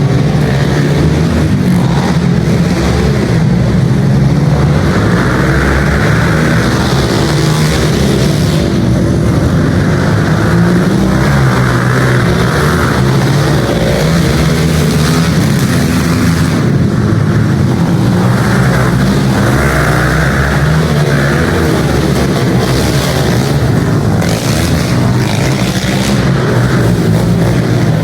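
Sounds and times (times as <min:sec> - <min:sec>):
pit bike engines racing: 0:00.0 - 0:28.0.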